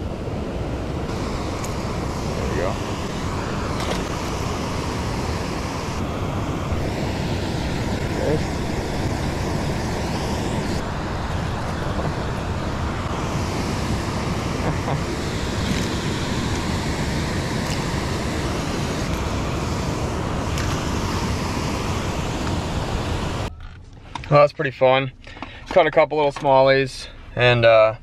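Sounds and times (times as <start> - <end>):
wind buffeting microphone: 0.0 - 23.5
water rushing through spillway: 0.3 - 23.5.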